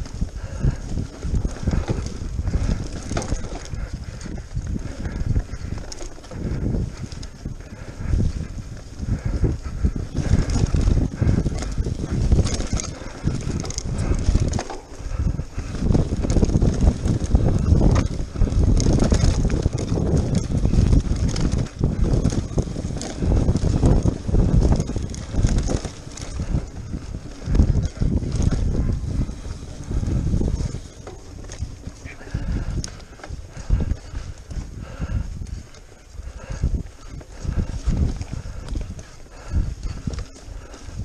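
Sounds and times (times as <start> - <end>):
bike tyres rumbling over bumps: 0.0 - 41.0
wind on microphone: 0.0 - 41.0.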